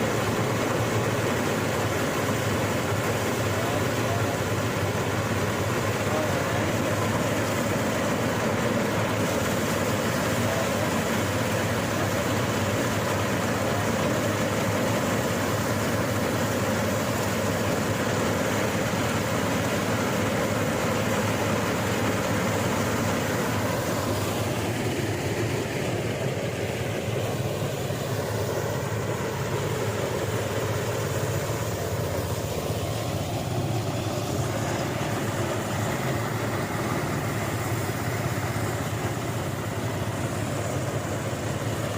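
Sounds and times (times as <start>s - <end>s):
threshing machine engine running: 0.0s - 41.9s.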